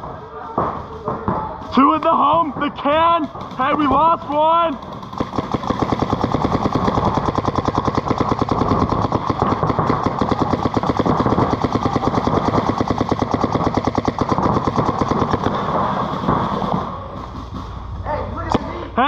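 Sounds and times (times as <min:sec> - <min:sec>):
paintball markers firing rapidly: 0:00.6 - 0:17.7.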